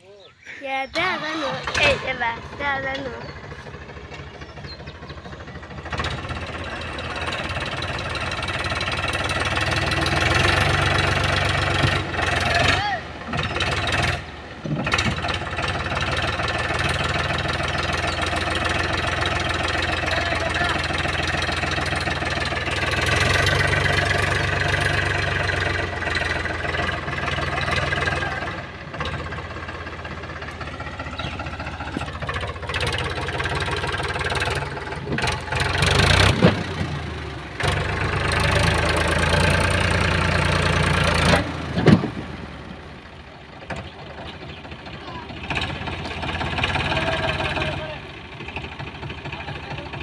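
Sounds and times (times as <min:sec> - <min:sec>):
tractor diesel engine straining: 0:00.0 - 0:50.0.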